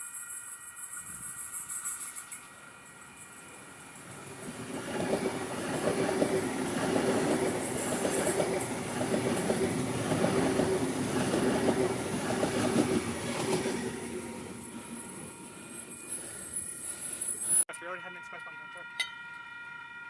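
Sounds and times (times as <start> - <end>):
train wheels on rails: 0.0 - 17.6.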